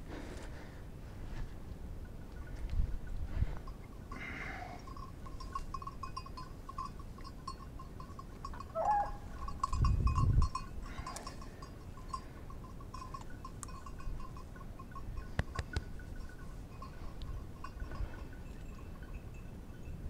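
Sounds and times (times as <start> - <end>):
small bell jingling: 2.0 - 20.0.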